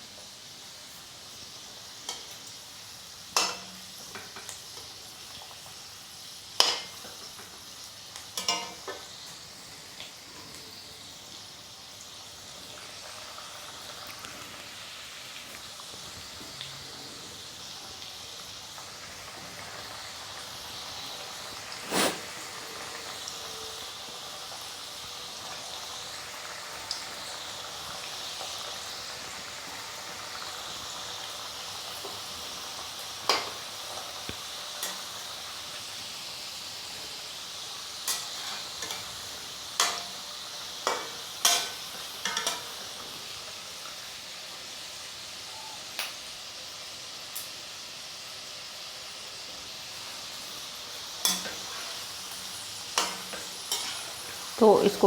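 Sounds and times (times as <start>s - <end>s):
deep-frying in hot oil: 0.0s - 55.0s.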